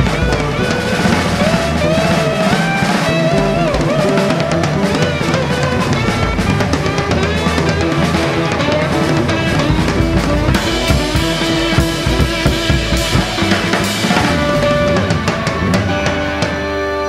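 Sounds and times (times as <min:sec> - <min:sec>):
drum kit beat: 0:00.0 - 0:17.0
instrumental song: 0:00.0 - 0:17.0.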